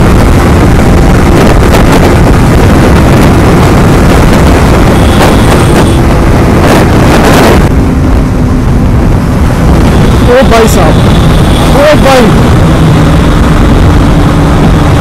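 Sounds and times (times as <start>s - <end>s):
motorcycle engine at speed: 0.0s - 15.0s
wind buffeting microphone: 0.0s - 15.0s.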